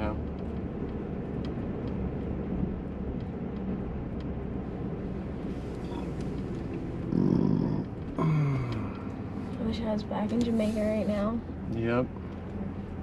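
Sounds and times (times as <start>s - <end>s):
road and engine noise inside car: 0.0s - 13.0s.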